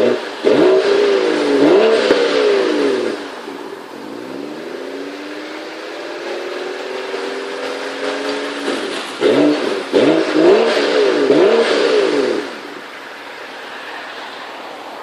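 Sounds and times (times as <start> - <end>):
car engine idling and revving: 0.0 - 15.0
steady hiss: 0.0 - 15.0.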